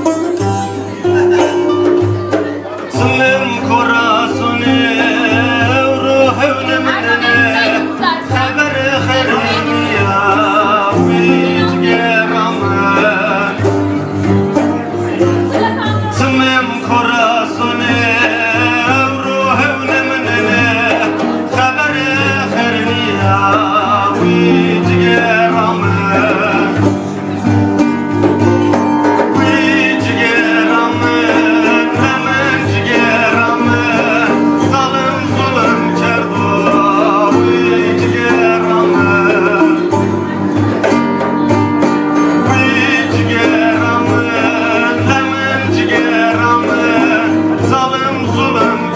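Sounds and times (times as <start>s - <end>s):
man singing folk song: 0.0s - 48.9s
plucked string accompaniment: 0.0s - 48.9s.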